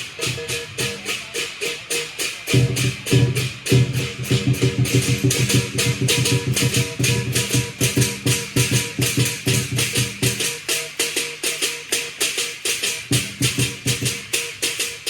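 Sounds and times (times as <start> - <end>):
cymbals clashing: 0.0 - 15.0
drum beat: 0.0 - 15.0.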